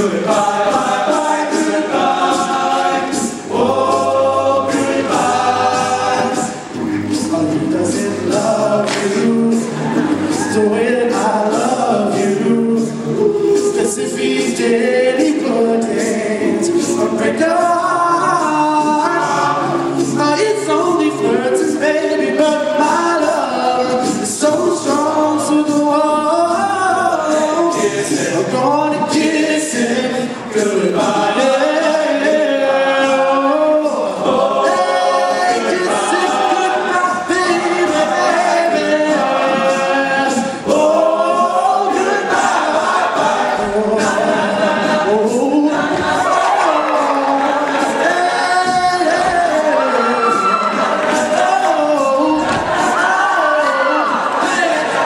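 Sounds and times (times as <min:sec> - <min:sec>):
male a cappella group singing: 0:00.0 - 0:55.0.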